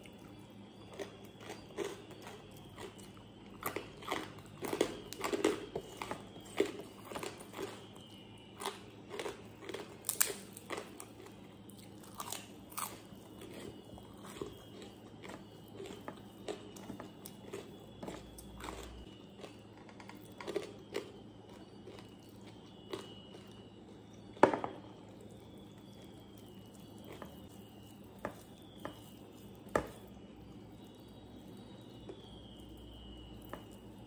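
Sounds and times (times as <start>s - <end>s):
soft chewing: 0.0s - 34.0s.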